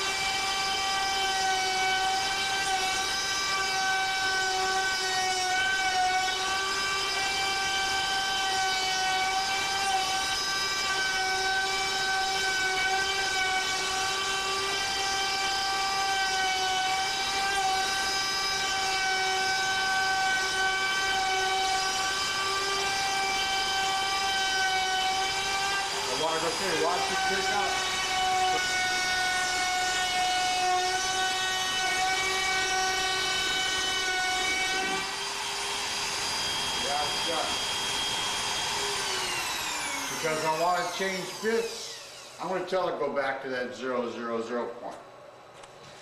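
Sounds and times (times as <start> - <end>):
router spindle whine milling wood: 0.0 - 42.8.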